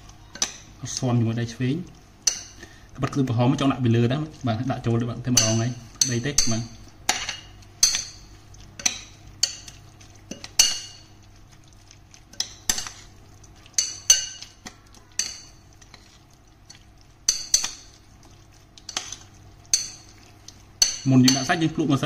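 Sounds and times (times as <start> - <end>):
spoon stirring wet sauce: 0.0 - 22.0.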